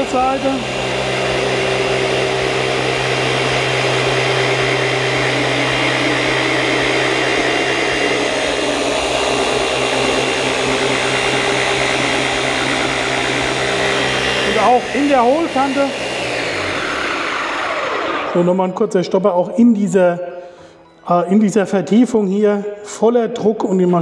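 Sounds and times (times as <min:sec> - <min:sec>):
car polisher running: 0:00.0 - 0:19.6.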